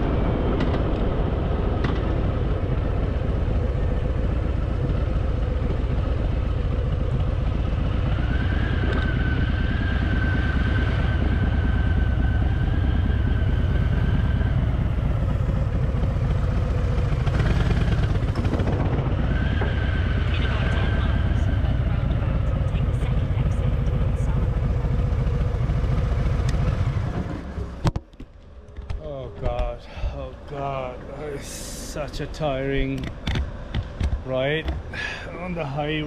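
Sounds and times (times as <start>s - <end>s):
motorcycle engine rumbling: 0.0s - 36.0s.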